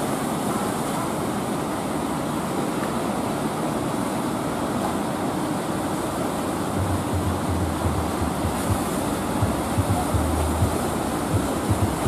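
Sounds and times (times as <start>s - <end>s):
surf breaking and washing: 0.0s - 12.0s.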